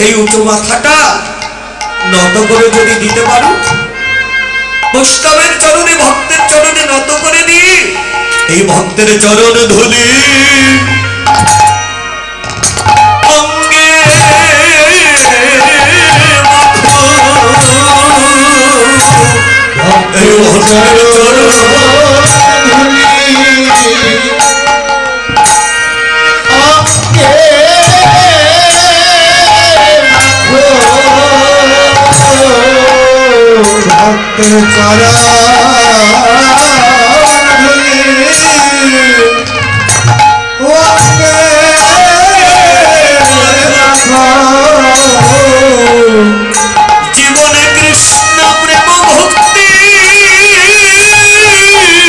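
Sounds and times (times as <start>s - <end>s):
harmonium melody: 0.0s - 52.0s
khol drum beating: 0.0s - 52.0s.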